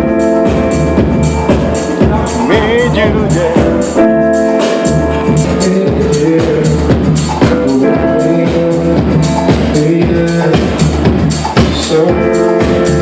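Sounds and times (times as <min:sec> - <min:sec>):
drum kit beat: 0:00.0 - 0:13.0
rock band playing live: 0:00.0 - 0:13.0.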